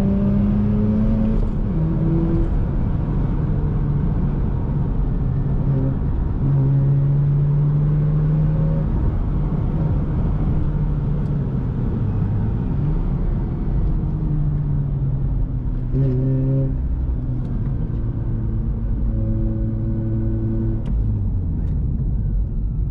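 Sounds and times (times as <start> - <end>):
rotary car engine driving: 0.0 - 22.9.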